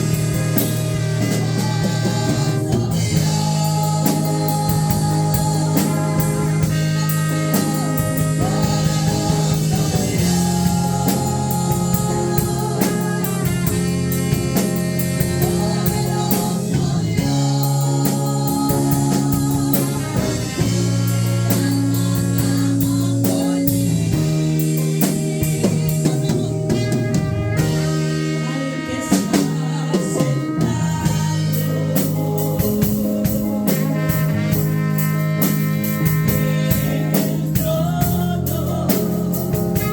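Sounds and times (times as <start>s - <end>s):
person singing: 0.0s - 34.8s, 35.9s - 39.9s
worship band playing: 0.0s - 39.9s.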